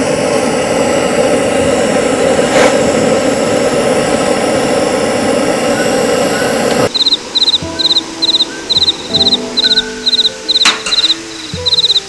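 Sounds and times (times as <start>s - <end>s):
gas burner hissing: 0.0s - 12.0s.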